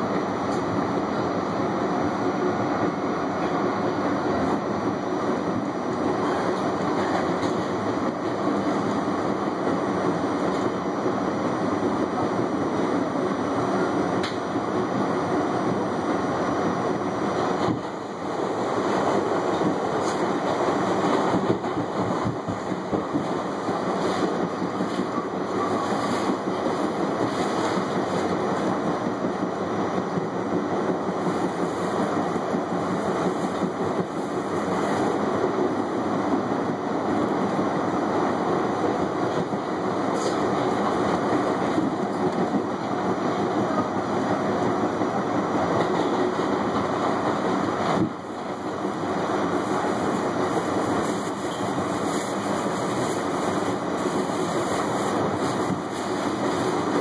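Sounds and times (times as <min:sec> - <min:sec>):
clickety-clack over rail joints: 0:00.0 - 0:01.0, 0:02.8 - 0:11.2, 0:14.1 - 0:15.0, 0:16.7 - 0:57.0
steel wheels rumbling on rail: 0:00.0 - 0:57.0
train passing alongside: 0:00.0 - 0:57.0.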